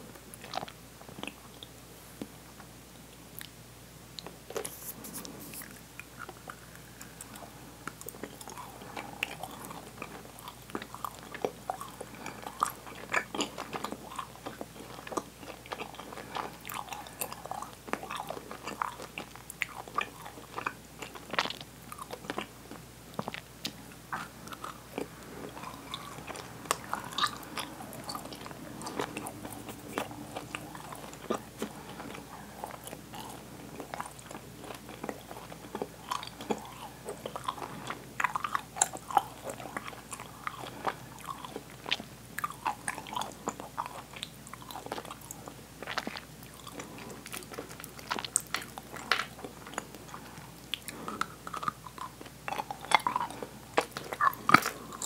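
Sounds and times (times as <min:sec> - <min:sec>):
person chewing candy: 0:00.1 - 0:01.8, 0:04.2 - 0:55.0.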